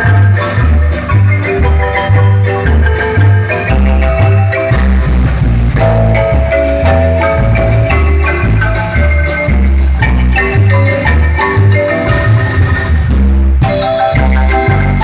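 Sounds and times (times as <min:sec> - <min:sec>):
bass line: 0:00.0 - 0:15.0
marimba melody: 0:00.0 - 0:15.0.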